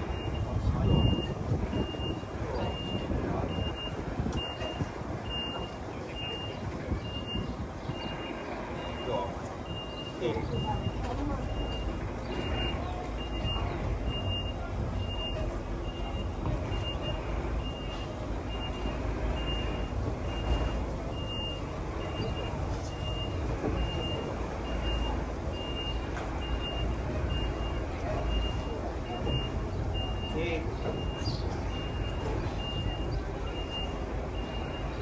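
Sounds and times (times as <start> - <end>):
diesel truck engine rumble: 0.0 - 35.0
vehicle warning beeper: 0.0 - 35.0.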